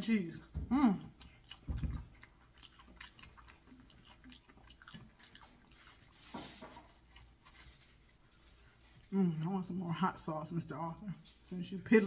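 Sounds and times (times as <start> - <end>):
chewing crispy fried chicken: 0.3 - 10.3.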